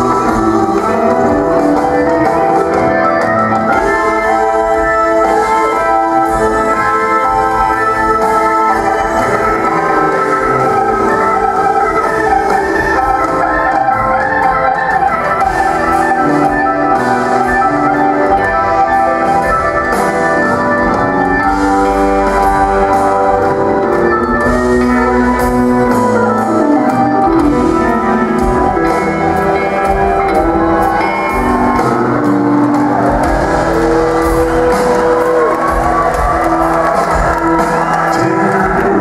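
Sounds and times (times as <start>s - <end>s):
electric guitar bending notes: 0.0s - 39.0s
rock band playing slow blues: 0.0s - 39.0s.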